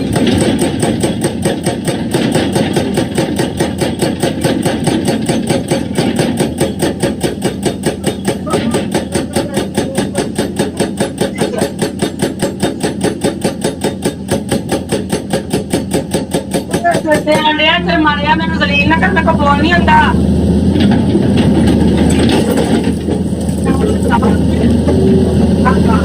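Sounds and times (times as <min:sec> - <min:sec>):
hydraulic breaker hammering rock: 0:00.0 - 0:18.4, 0:20.8 - 0:26.0
excavator engine running: 0:00.0 - 0:26.0.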